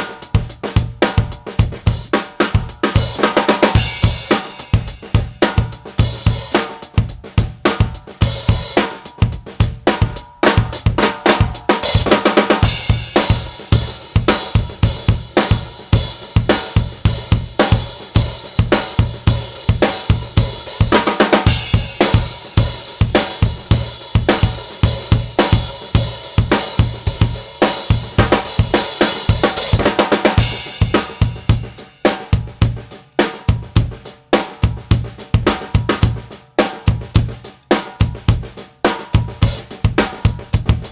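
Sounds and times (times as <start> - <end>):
drum kit groove: 0.0 - 40.9.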